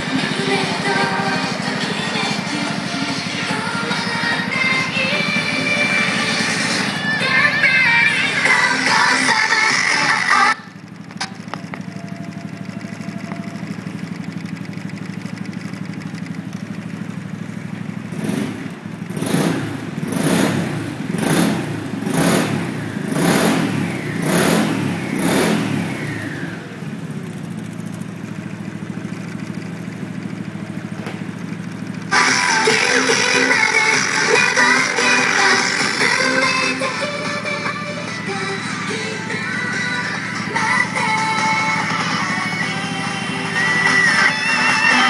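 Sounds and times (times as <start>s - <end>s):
scooter engine idling and revving: 0.0s - 45.0s.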